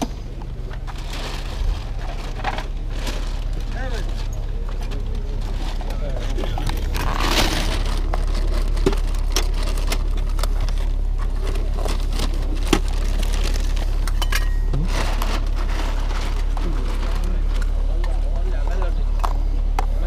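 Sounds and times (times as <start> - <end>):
steady low rumble: 0.0 - 20.0
plastic bag rustling: 0.5 - 17.9.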